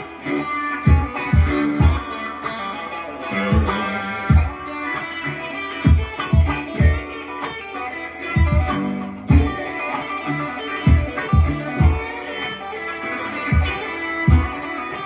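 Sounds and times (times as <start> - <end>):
backing beat: 0.0 - 15.0
funky electric guitar: 0.0 - 15.0.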